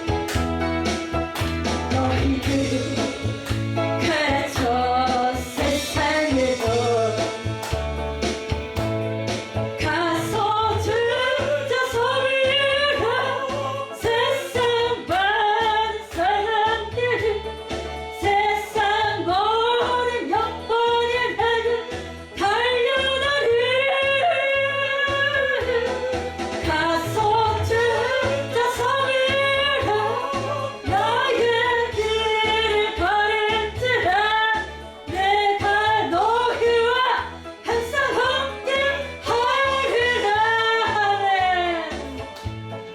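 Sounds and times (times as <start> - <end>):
instrumental backing track: 0.0 - 42.9
person singing a hymn: 1.9 - 7.6, 9.8 - 17.5, 18.2 - 42.0.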